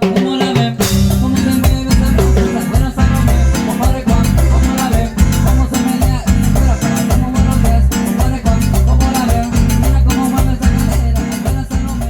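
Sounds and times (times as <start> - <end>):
live tropical band music: 0.0 - 12.0.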